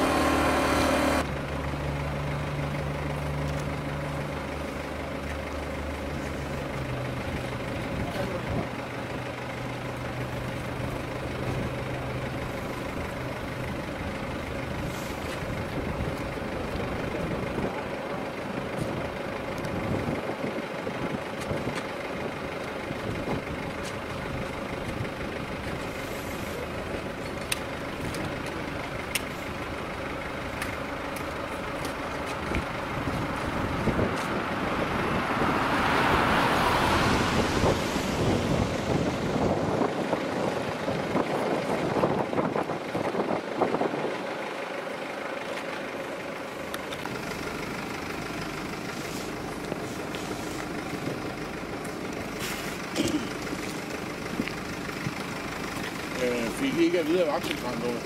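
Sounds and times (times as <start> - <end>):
idling engine machinery drone: 0.0 - 58.0.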